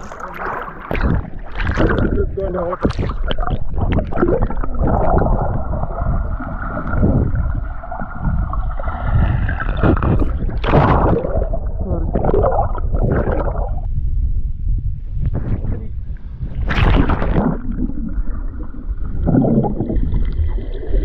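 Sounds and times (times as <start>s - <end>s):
water sloshing and gurgling: 0.0s - 14.2s, 15.0s - 21.0s.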